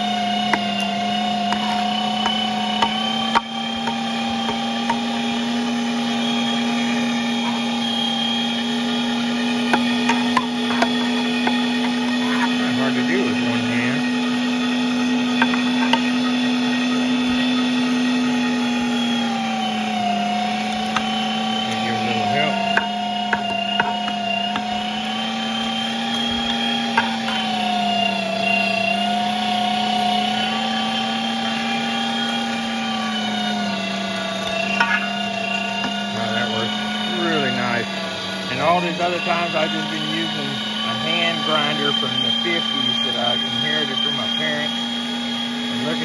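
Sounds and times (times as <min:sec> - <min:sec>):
electric meat grinder running: 0:00.0 - 0:46.0.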